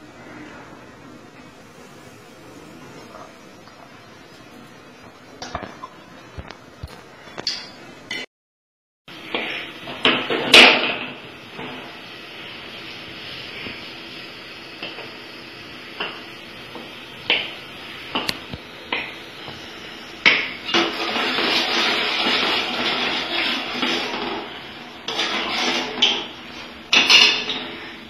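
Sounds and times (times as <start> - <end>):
frying oil hissing: 0.0 - 8.0, 9.1 - 28.0.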